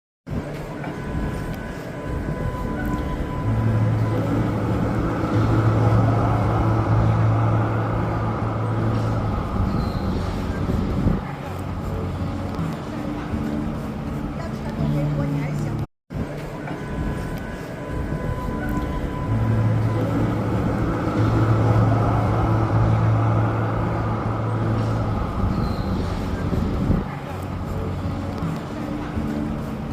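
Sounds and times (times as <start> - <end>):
road rumble: 0.3 - 29.9
large vehicle engine hum: 0.4 - 15.9, 16.7 - 29.9.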